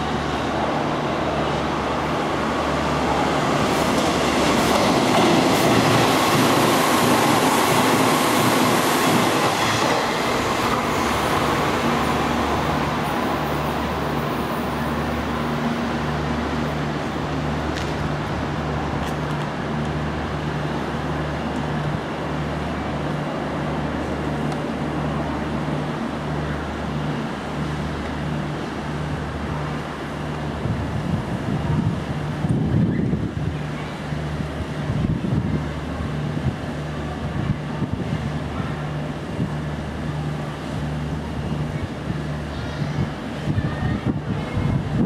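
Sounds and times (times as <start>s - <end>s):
electric train passing: 0.0s - 45.0s.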